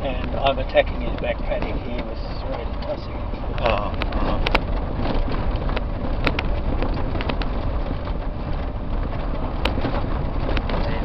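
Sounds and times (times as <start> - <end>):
tyres rumbling on rough track: 0.0 - 11.0.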